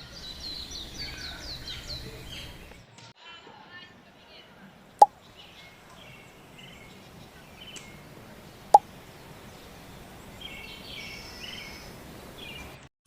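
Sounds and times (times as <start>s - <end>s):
outdoor background noise: 0.0s - 12.9s
small birds chirping: 0.0s - 12.9s.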